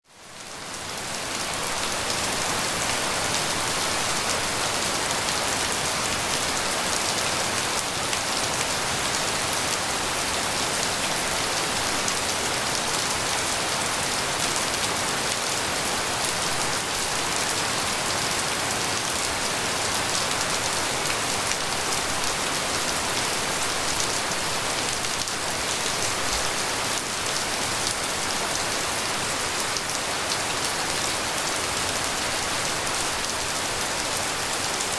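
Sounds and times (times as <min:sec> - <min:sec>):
rain falling steadily: 0:00.0 - 0:34.9.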